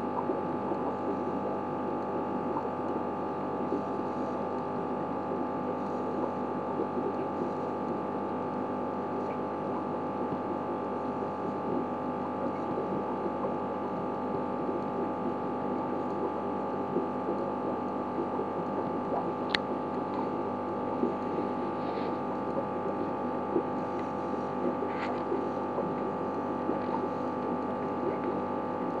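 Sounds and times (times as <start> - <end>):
electrical hum with held tones: 0.0 - 29.0.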